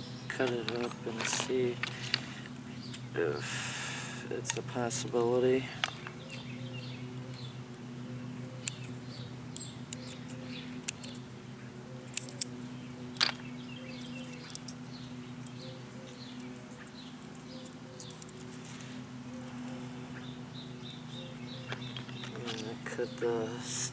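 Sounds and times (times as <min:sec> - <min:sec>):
small birds chirping: 0:00.0 - 0:23.9
steady low hum: 0:00.0 - 0:23.9.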